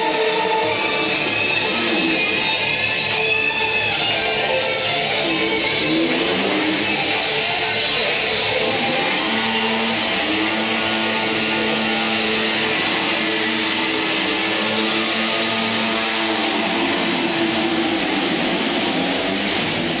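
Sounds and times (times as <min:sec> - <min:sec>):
motorcycle engines running: 0:00.0 - 0:20.0
rock music with electric guitar: 0:00.0 - 0:20.0.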